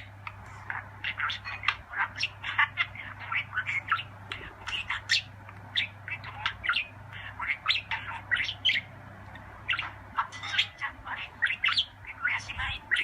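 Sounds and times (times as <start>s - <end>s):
parakeet chirping and squawking: 0.0s - 13.0s.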